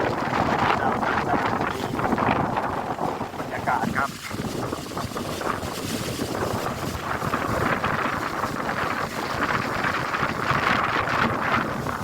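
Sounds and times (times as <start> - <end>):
wind buffeting microphone: 0.0 - 12.0
wind rushing through trees: 0.0 - 12.0.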